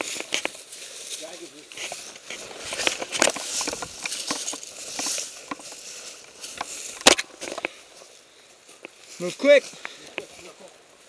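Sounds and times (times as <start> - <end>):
clothing and gear rustling: 0.0 - 9.3
footsteps through dry brush: 0.0 - 11.0.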